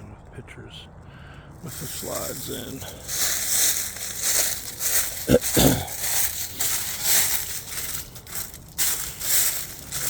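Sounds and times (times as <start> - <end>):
footsteps crunching: 1.6 - 10.0.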